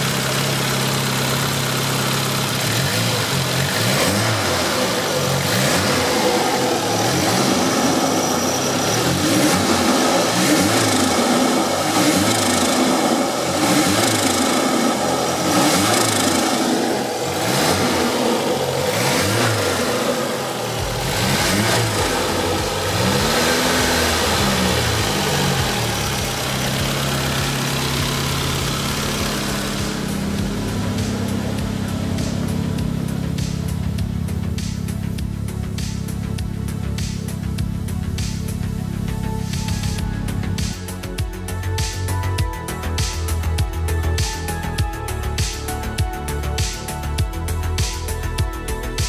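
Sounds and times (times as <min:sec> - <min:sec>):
car engine revving: 0:00.0 - 0:48.3.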